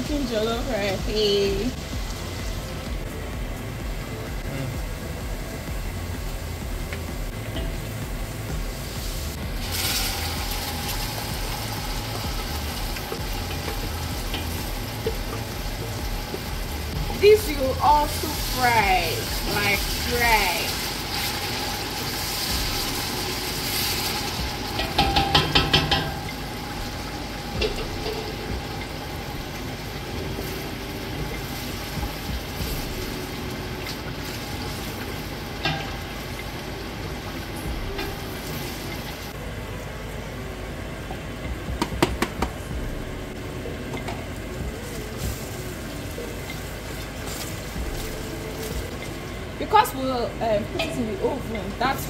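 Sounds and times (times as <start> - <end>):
rice sizzling in a pot: 0.0 - 52.0.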